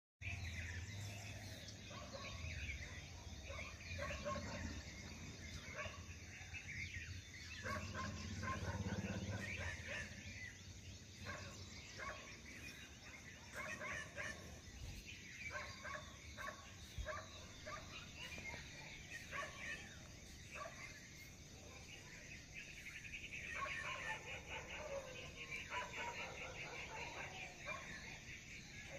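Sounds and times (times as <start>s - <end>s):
faint dogs barking: 0.3s - 28.9s.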